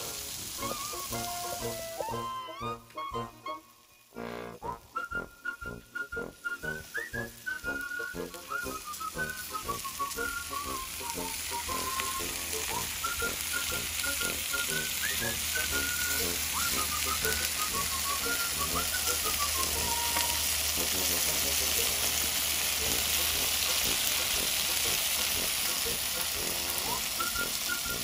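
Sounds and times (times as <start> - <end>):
meat sizzling on a grill: 0.0 - 28.0.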